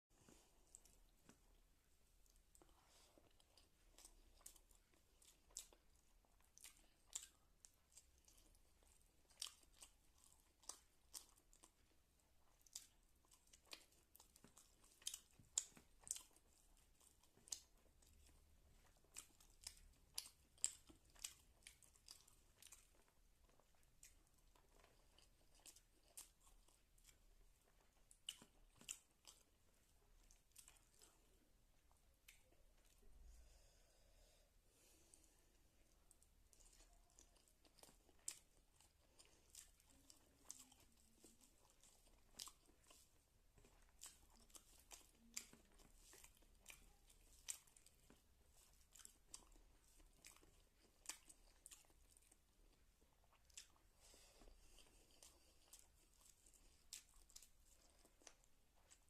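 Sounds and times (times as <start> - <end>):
person chewing crunchy food: 0.2 - 33.4, 35.1 - 59.0.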